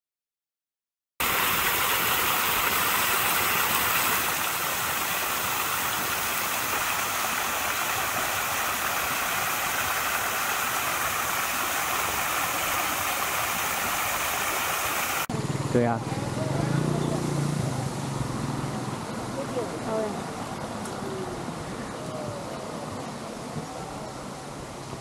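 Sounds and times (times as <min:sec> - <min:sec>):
falling water rushing: 0:01.2 - 0:15.3, 0:16.2 - 0:25.0.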